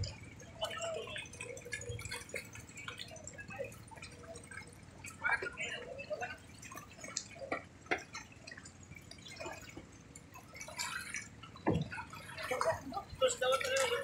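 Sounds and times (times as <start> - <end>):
water dripping and splashing on boats: 0.0 - 14.0.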